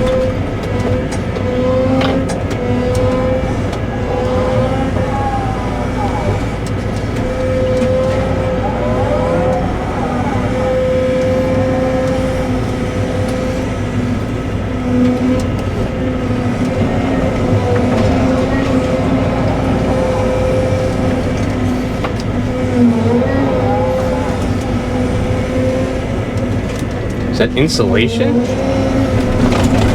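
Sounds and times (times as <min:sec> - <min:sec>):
excavator diesel engine running: 0:00.0 - 0:29.9
hydraulic whine: 0:00.0 - 0:29.9.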